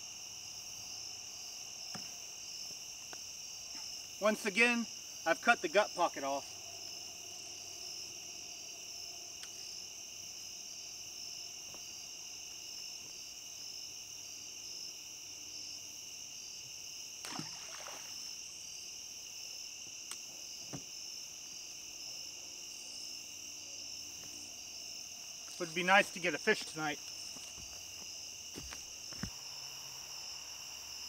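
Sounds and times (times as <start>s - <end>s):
crickets and insects chirring: 0.0s - 31.0s.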